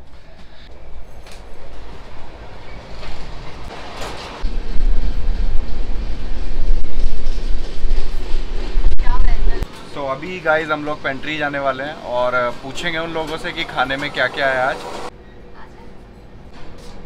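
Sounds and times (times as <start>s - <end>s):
moving train running noise: 0.0s - 17.0s.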